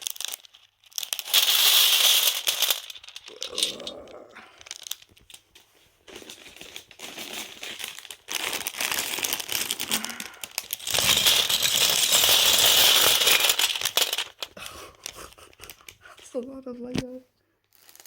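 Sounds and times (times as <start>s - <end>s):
plastic pieces rattling: 0.0s - 16.2s, 17.7s - 18.0s
plastic bags crinkling: 0.0s - 16.5s, 17.7s - 18.0s.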